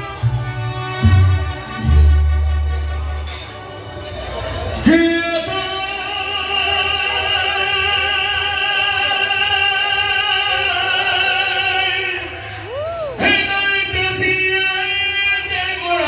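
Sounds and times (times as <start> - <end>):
mariachi band playing: 0.0 - 16.0.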